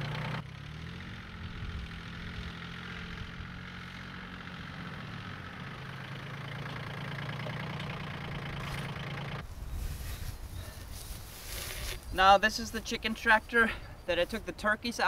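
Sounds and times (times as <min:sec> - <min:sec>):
tractor diesel engine running: 0:00.0 - 0:14.8.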